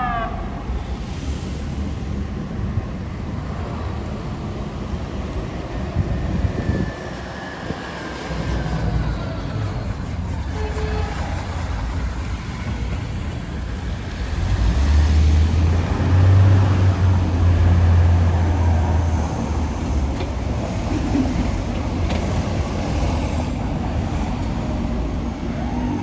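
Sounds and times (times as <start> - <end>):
street traffic noise: 0.0 - 26.0.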